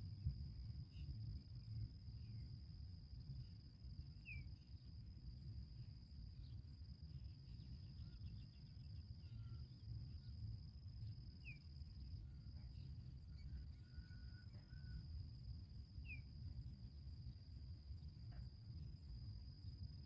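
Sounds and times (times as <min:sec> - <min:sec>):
insect trill: 0:00.0 - 0:20.0.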